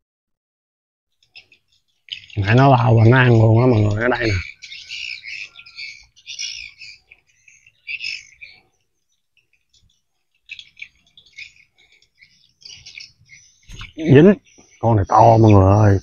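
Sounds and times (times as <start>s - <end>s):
small birds chirping: 1.1s - 16.0s.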